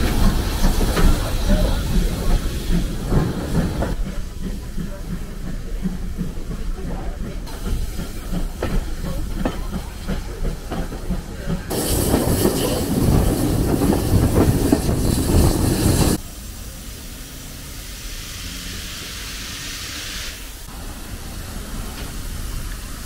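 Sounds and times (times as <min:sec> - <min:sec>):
train wheels clicking over rail joints: 0:00.0 - 0:16.2, 0:20.6 - 0:23.0
steam train rushing hiss: 0:00.0 - 0:23.0.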